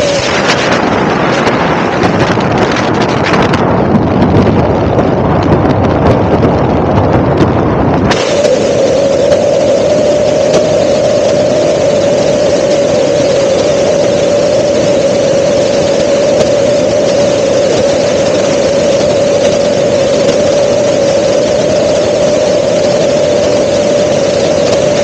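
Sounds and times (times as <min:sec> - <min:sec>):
helicopter engine and rotor noise: 0:00.0 - 0:25.0
mid-pitched whine: 0:00.0 - 0:25.0.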